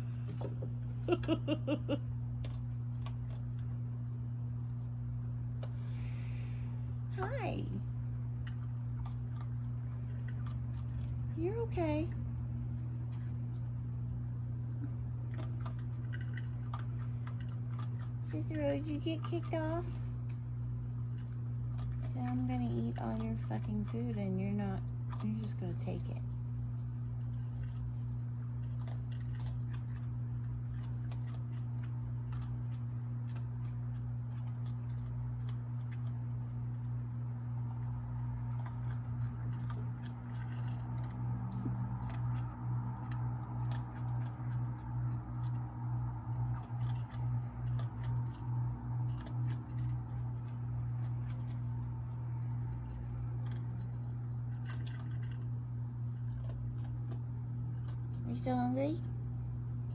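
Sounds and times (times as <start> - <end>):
animal crunching dry food: 0.0 - 59.9
crickets trilling: 0.0 - 59.9
low hum: 0.0 - 59.9.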